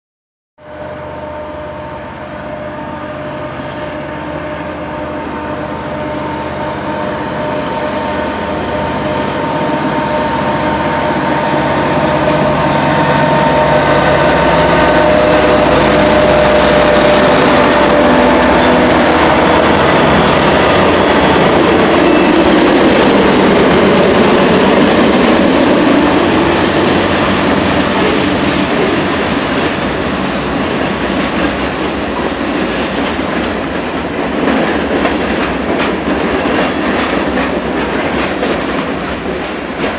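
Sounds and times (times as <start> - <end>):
diesel locomotive engine: 0.6 - 39.9
rail cars rolling on rails: 0.6 - 39.9.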